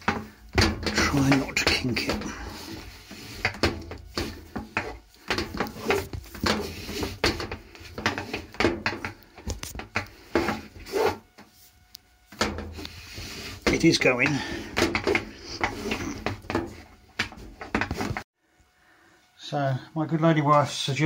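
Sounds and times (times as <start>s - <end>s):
hose rubbing and scraping on wood: 0.0s - 18.2s.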